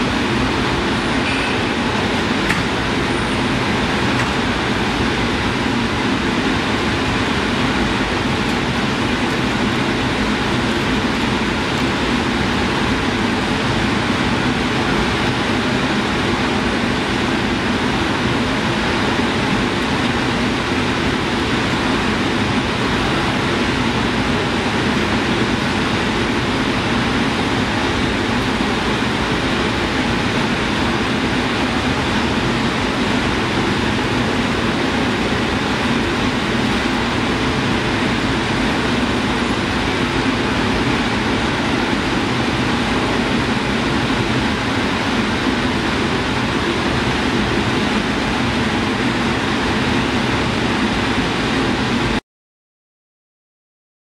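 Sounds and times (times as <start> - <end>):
dense rushing and rumbling noise: 0.0 - 52.2.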